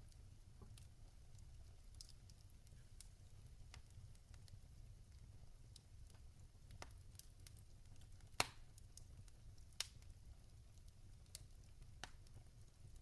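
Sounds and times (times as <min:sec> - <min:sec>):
faint low rumble of fire: 0:00.0 - 0:13.0
fire crackling pops: 0:00.0 - 0:13.0.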